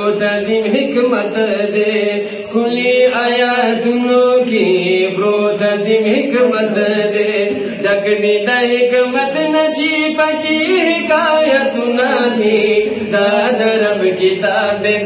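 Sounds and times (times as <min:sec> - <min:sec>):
men singing a devotional chant: 0:00.0 - 0:15.0.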